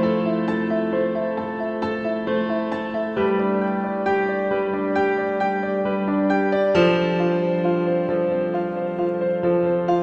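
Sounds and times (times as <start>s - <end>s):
soft piano melody: 0.0s - 10.0s.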